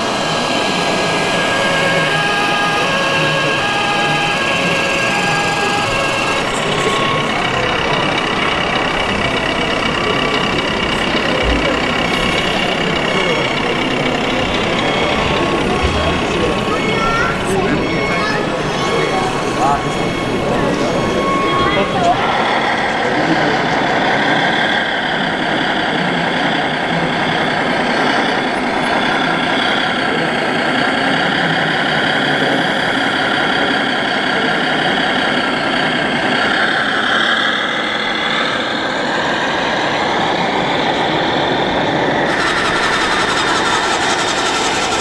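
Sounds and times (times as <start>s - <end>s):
busy hall background noise: 0.0s - 45.0s
model truck diesel engine sound: 0.0s - 45.0s.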